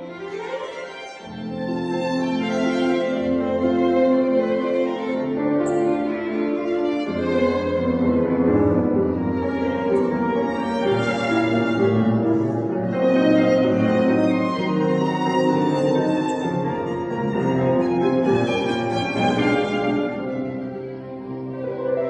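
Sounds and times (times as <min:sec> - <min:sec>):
bowed string melody: 0:00.0 - 0:22.0.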